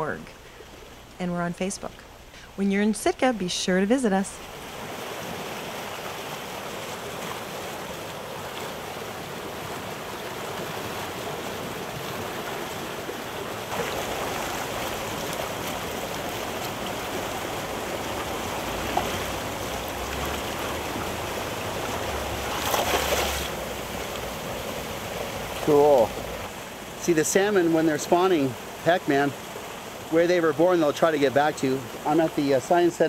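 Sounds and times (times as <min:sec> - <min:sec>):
shallow water lapping: 0:00.0 - 0:33.0
water rushing: 0:00.0 - 0:33.0.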